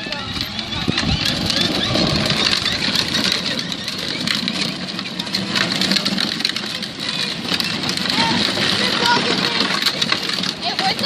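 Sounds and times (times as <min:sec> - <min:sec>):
plastic toy wheels rolling: 0:00.0 - 0:11.0.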